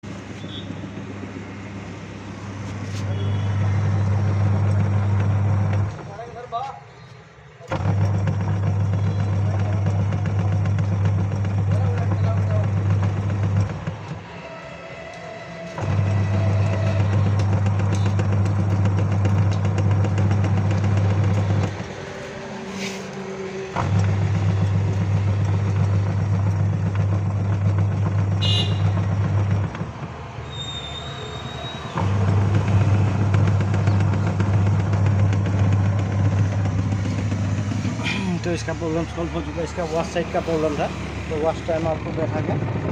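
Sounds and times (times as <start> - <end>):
washing machine motor humming: 0.4 - 6.0, 7.7 - 14.6, 15.7 - 30.4, 32.0 - 42.9.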